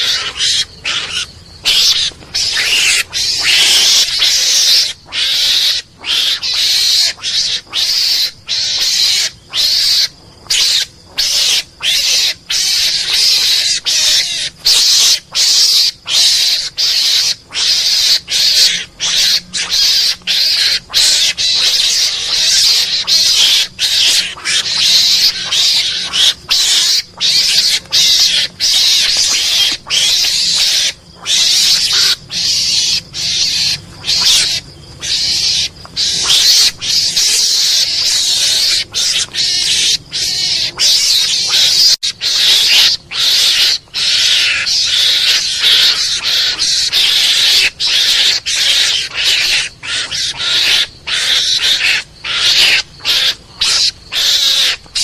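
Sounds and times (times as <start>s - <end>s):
hoarse hissing lure calls: 0.0s - 55.0s.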